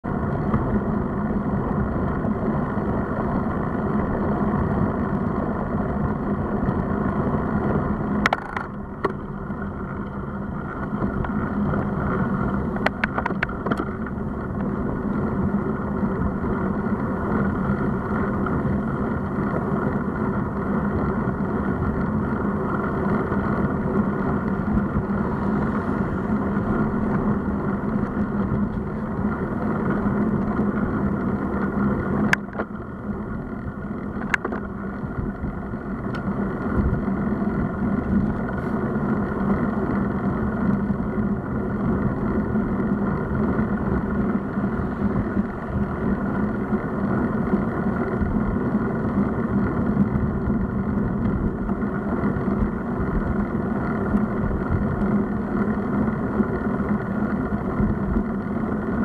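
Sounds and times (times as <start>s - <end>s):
bicycle tyre noise: 0.0s - 59.0s
wind rumble: 0.0s - 59.0s.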